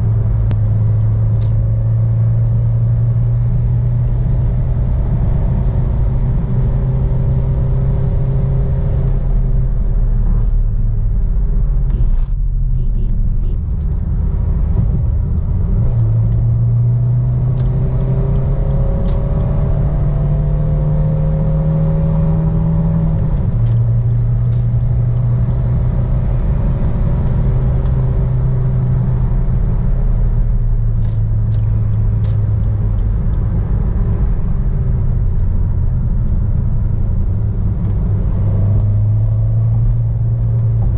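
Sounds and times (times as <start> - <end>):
car engine drone under load: 0.0 - 40.9
road and tyre noise: 0.0 - 40.9.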